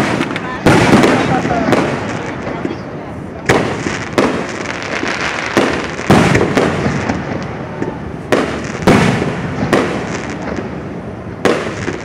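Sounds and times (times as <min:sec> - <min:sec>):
fireworks bursting with echoing bangs: 0:00.0 - 0:12.0.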